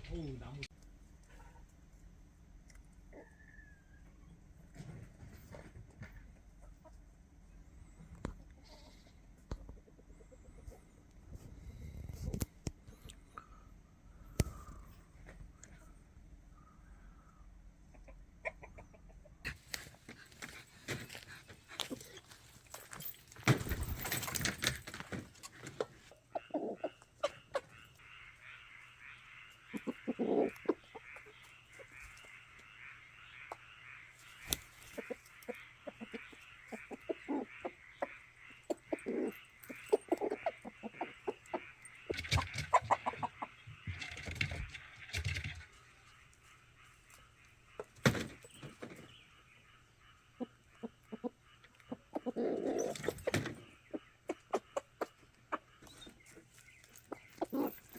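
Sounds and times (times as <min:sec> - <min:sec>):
chickens clucking: 0:00.0 - 0:02.0, 0:02.8 - 0:57.9.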